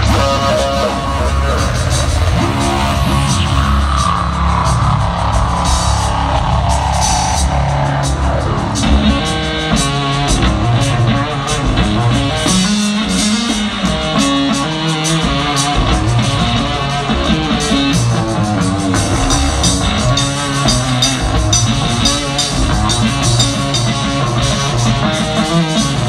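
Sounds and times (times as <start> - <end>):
drums: 0.0 - 26.0
electric guitar: 0.0 - 26.0
rock band playing live: 0.0 - 26.0.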